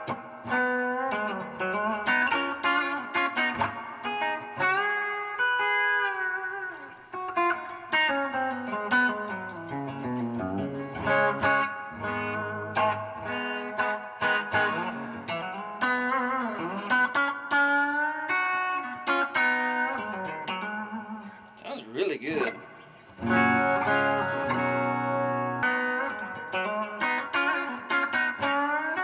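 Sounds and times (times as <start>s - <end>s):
electric guitar single-note lines: 0.0s - 21.4s, 22.3s - 29.0s.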